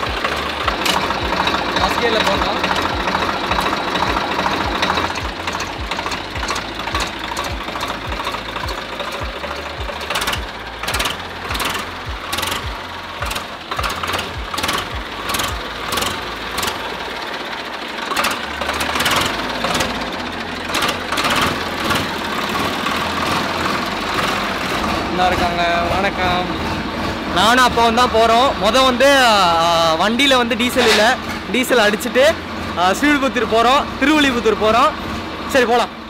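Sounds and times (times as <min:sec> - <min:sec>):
sharp clicks and rattles: 0:00.0 - 0:35.9
tractor diesel engine chugging: 0:00.0 - 0:36.0.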